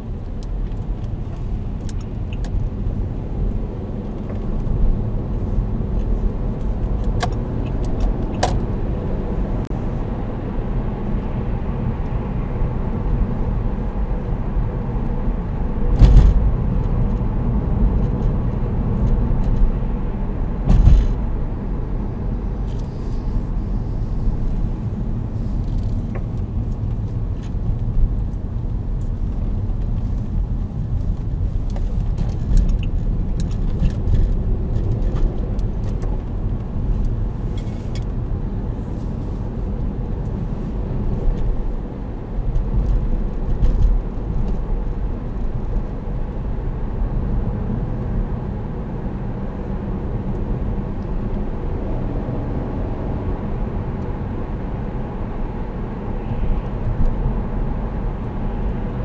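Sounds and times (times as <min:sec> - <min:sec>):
car engine rumble: 0:00.0 - 0:59.0
tyres on road: 0:00.0 - 0:59.0.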